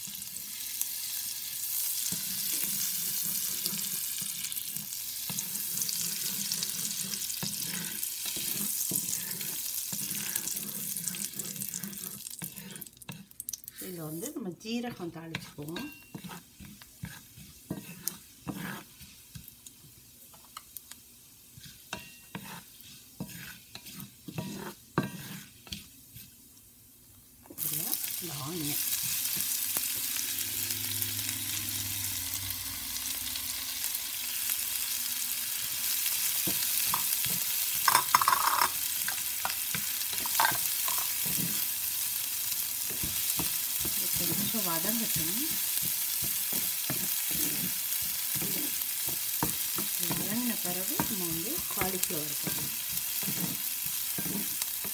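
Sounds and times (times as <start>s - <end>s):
spatula scraping skillet: 0.0s - 26.5s, 27.5s - 54.9s
onion sizzling in butter: 0.0s - 54.9s.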